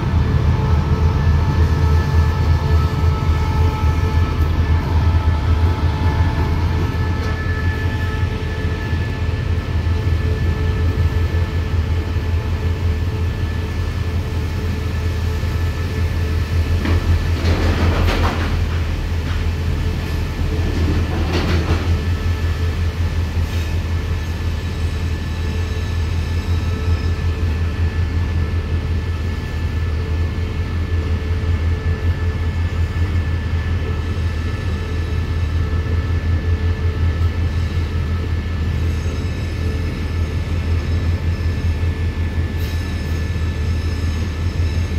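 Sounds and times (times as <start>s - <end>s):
train wagons rumbling past: 0.0s - 44.9s.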